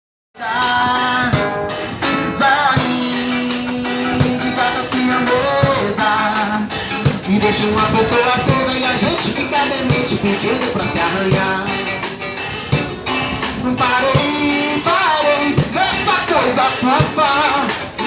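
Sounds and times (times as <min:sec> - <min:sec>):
drum kit beat: 0:00.4 - 0:18.0.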